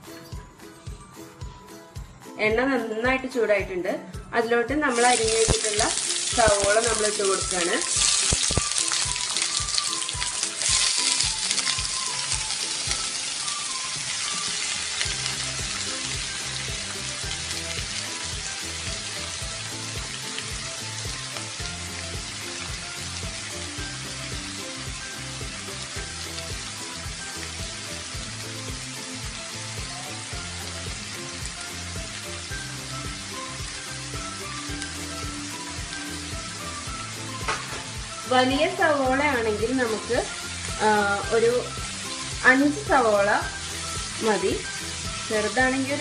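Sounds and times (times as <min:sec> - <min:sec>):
onions sizzling in a pan: 0:04.8 - 0:46.0.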